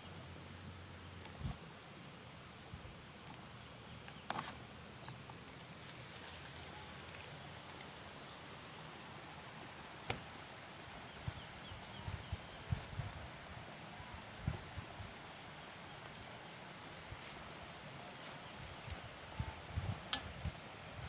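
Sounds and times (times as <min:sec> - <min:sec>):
faint high insect drone: 0:00.0 - 0:21.0
outdoor hiss: 0:00.0 - 0:21.0.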